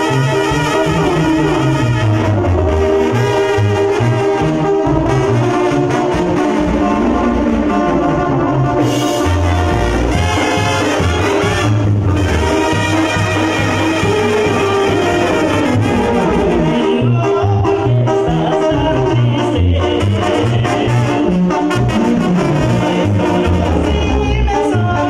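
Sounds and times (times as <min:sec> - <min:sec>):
brass band playing: 0:00.0 - 0:25.0
drums: 0:00.0 - 0:25.0
sousaphone bass line: 0:00.0 - 0:25.0.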